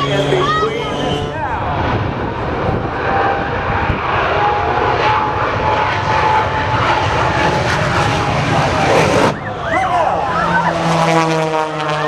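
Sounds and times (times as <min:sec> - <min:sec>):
high engine whine: 0:00.0 - 0:12.0
jet engines roaring: 0:00.0 - 0:12.0.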